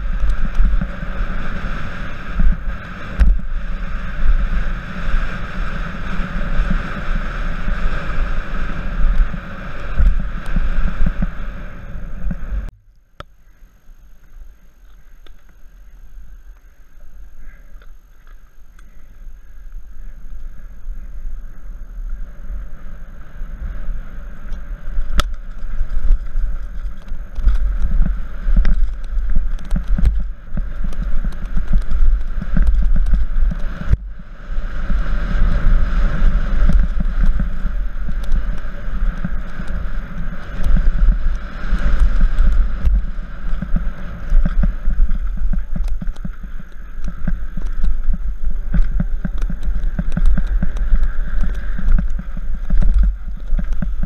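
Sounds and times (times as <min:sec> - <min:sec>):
bike rattling over bumps: 0:00.0 - 0:54.0
wind and tyres on dirt: 0:00.0 - 0:54.0.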